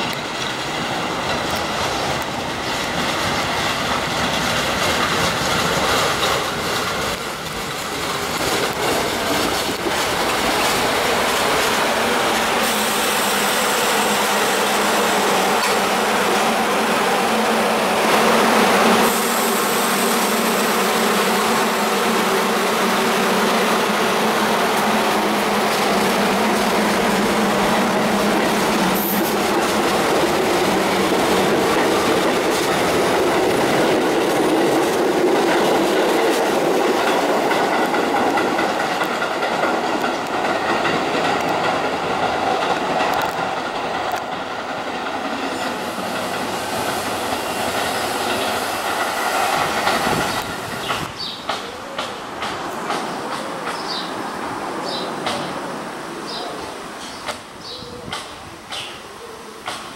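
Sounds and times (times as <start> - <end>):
subway train passing: 0.0 - 59.9
train wheels on rails: 0.0 - 59.9.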